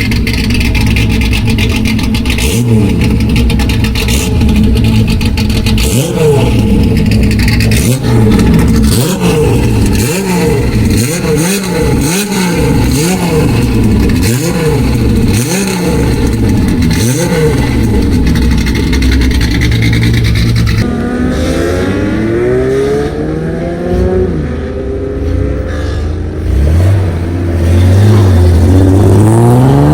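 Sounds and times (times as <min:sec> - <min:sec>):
loud car exhaust revving: 0:00.0 - 0:29.9.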